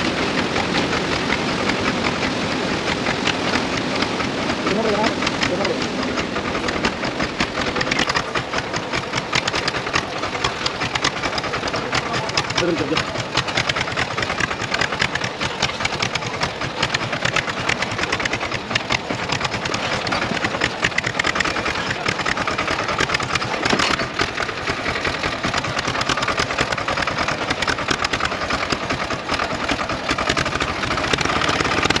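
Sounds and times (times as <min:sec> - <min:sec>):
tractor diesel engine clattering: 0:00.0 - 0:32.0.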